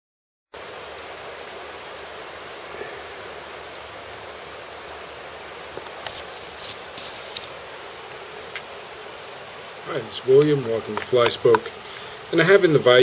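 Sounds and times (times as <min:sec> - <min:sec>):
river water rushing over rapids: 0:00.6 - 0:13.0.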